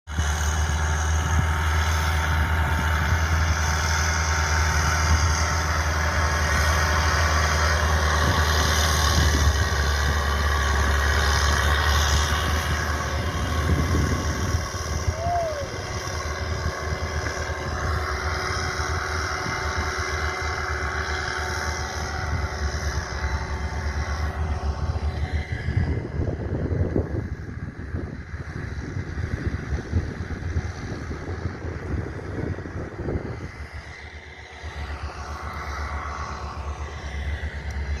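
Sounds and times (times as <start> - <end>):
heavy machinery engine humming: 0.1 - 38.0.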